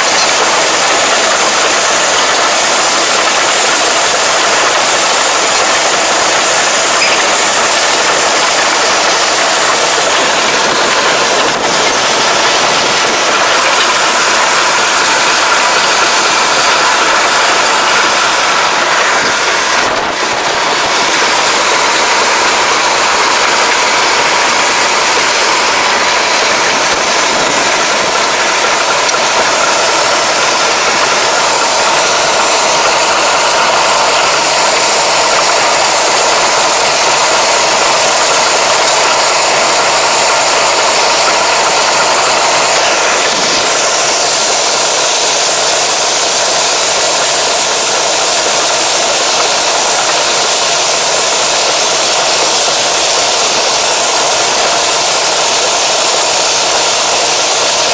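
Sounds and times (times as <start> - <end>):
tractor implement mechanical noise: 0.0 - 57.9.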